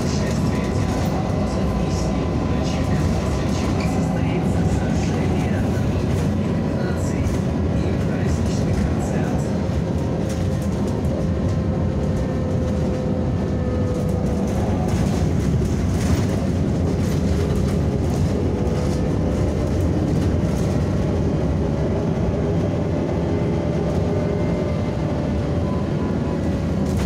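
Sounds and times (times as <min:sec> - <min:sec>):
rumble of tyres and body: 0:00.0 - 0:27.0.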